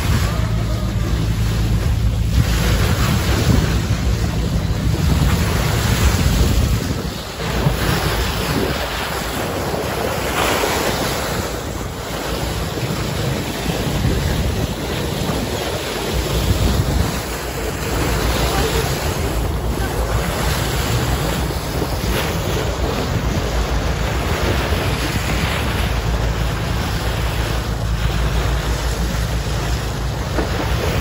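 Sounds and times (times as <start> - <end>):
low steady rumble: 0.0 - 31.0
water rushing along hull: 0.0 - 31.0
wind buffeting microphone: 0.0 - 31.0.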